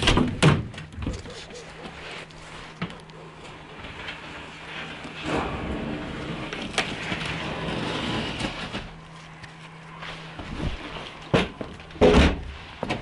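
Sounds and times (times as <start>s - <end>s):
boat scraping rustle: 1.2s - 13.0s.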